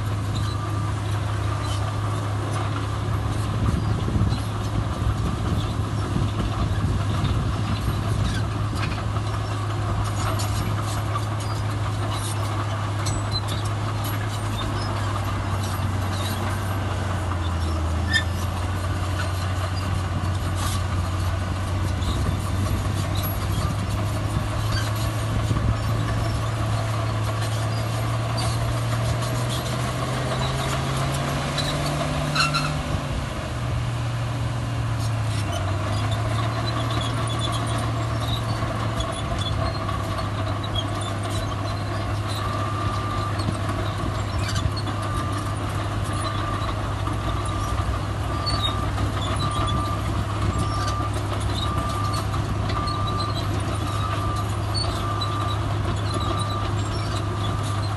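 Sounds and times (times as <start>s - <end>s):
diesel machinery engine: 0.0s - 57.9s.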